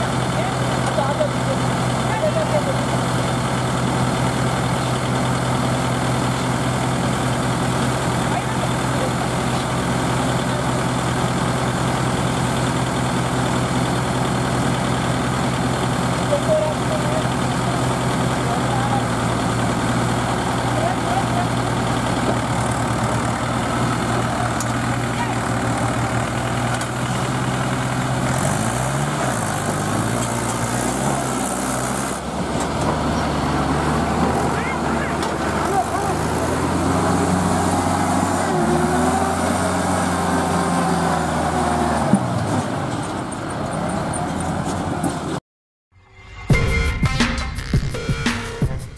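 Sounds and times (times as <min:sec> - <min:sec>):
diesel tractor engines idling: 0:00.0 - 0:45.4.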